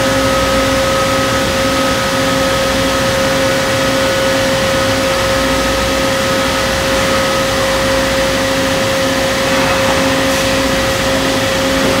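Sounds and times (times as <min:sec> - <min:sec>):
machine hum and whine: 0:00.0 - 0:12.0.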